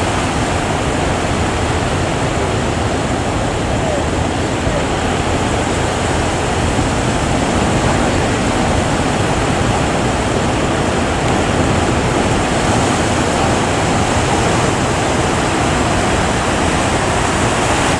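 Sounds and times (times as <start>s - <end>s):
sea surf breaking: 0.0s - 17.9s
wind on microphone: 0.0s - 17.9s.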